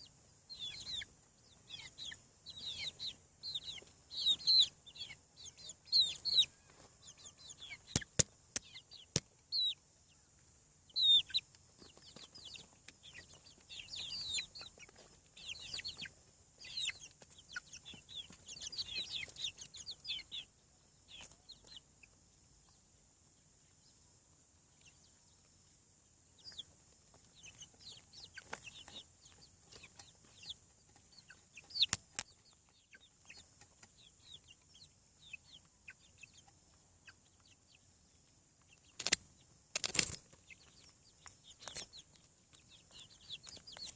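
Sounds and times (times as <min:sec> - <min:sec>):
chicks peeping and clucking: 0:00.0 - 0:43.9.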